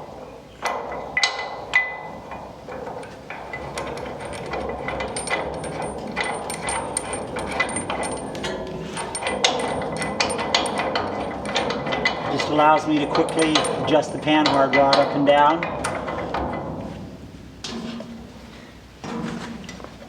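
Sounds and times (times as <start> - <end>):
hand tools and metal clinking: 0.6 - 16.7.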